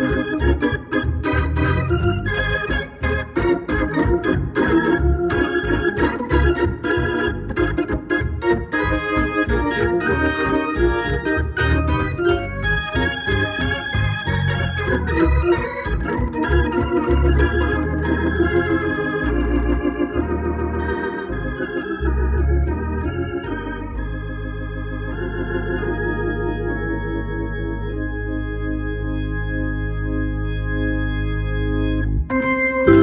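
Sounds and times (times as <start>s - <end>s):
low bass notes: 0.0s - 33.0s
organ playing chords: 0.0s - 33.0s.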